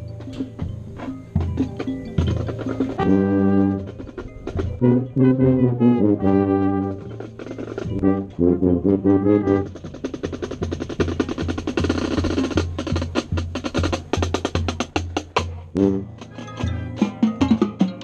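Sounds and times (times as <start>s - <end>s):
snare drum strokes and rolls: 0.0s - 18.0s
brass chords: 2.6s - 18.0s.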